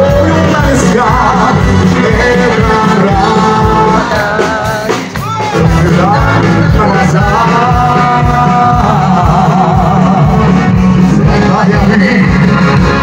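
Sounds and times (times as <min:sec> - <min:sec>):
music with singing over loudspeakers: 0:00.0 - 0:13.0.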